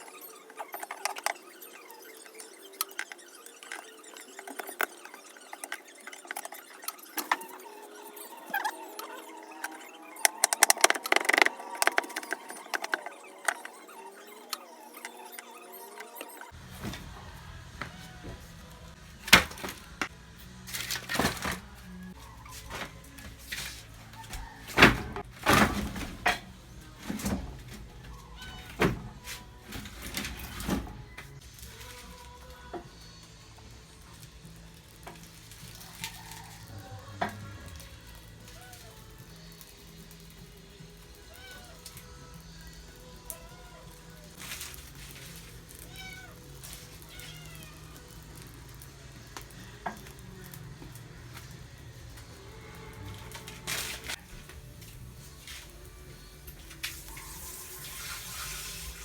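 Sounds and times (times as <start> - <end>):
faint background music: 0.0 - 59.0.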